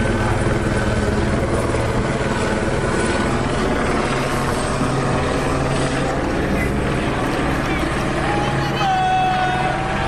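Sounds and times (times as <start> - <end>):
helicopter rotor chopping overhead: 0.0 - 10.0.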